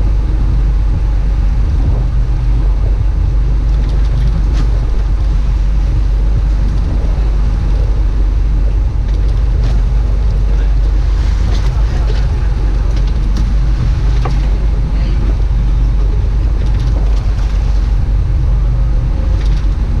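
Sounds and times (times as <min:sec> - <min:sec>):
boat engine drone: 0:00.0 - 0:20.0
rush of water and wind: 0:00.0 - 0:20.0.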